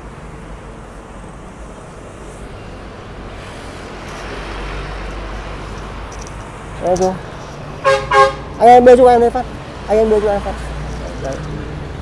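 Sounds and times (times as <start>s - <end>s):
rumble of passing vehicles: 0.0s - 12.0s.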